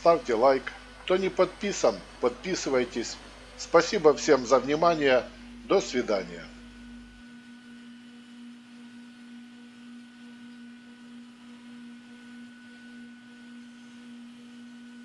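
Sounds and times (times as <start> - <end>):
router spindle humming: 0.0 - 15.0.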